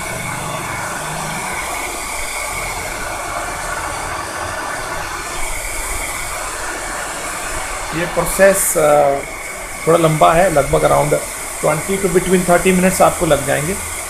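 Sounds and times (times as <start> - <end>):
pet blower dryer rushing air: 0.0 - 14.0.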